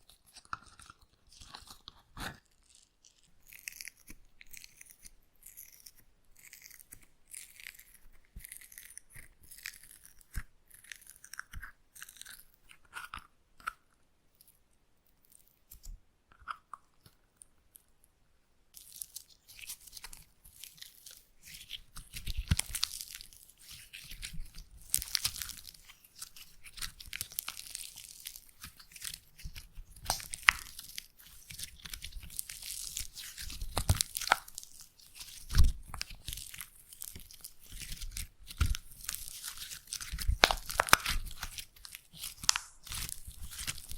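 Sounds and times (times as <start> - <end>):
slime crackling and squelching: 0.0 - 13.8, 18.7 - 43.9.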